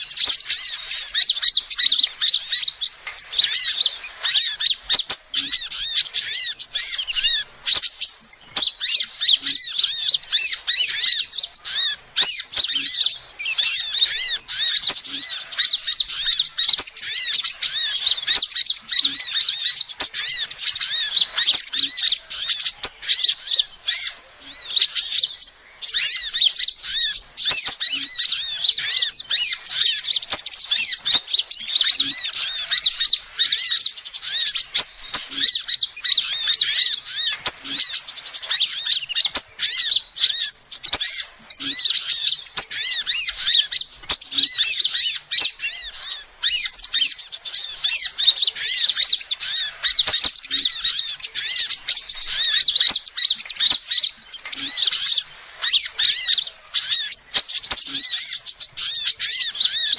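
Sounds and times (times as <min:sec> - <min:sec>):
bird twittering chirps: 0:00.0 - 0:59.9.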